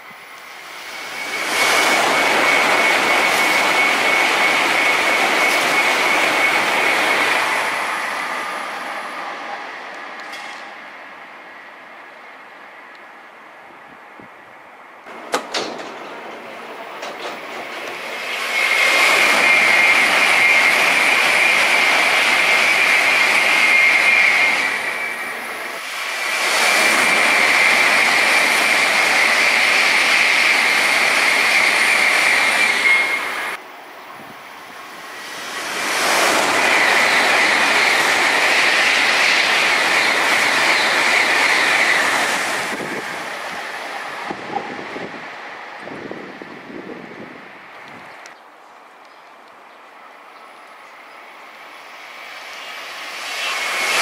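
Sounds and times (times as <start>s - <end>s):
high-speed train passing: 0.0s - 54.0s.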